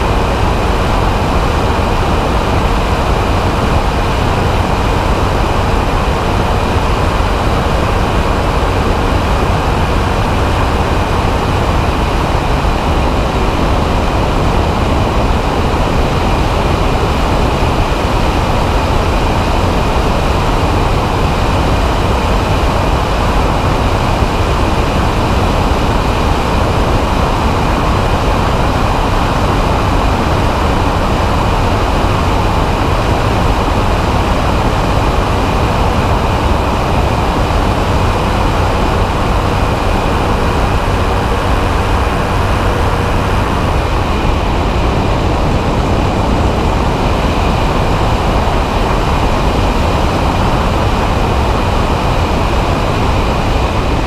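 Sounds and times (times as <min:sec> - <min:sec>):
aircraft engine and propeller: 0:00.0 - 0:54.0
rushing wind: 0:00.0 - 0:54.0.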